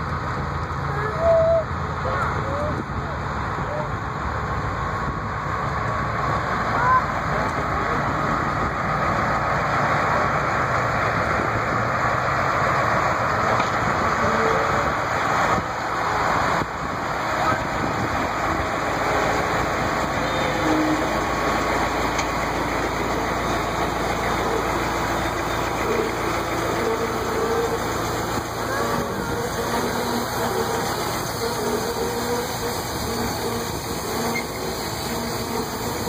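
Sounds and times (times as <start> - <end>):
railcar engine running: 0.0 - 36.0.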